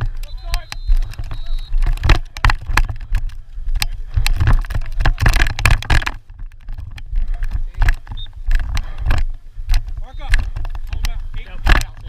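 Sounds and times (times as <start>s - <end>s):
irregular knocks and clatter: 0.0s - 12.0s.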